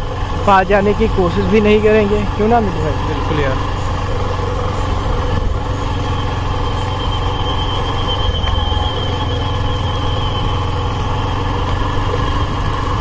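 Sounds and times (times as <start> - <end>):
vehicle engine running: 0.0 - 13.0
thin high whine: 0.4 - 12.4.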